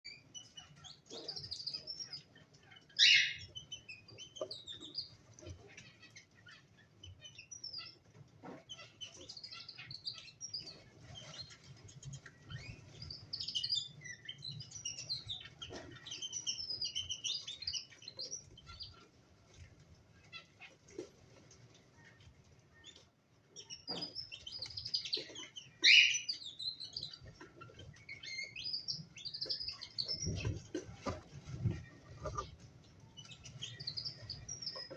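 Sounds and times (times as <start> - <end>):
cockatiels chirping and calling: 0.1 - 34.9.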